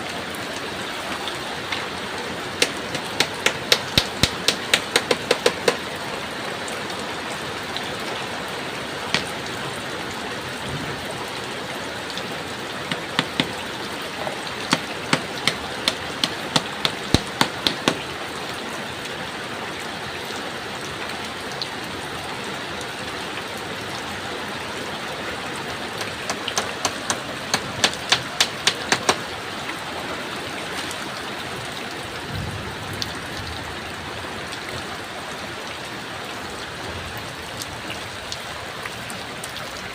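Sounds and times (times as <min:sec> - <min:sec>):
heavy rain on a shelter: 0:00.0 - 0:39.9.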